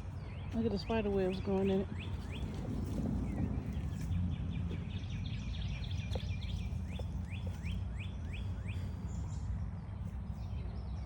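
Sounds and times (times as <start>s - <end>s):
bird chirping: 0.0s - 11.0s
steady low rumble: 0.0s - 11.0s.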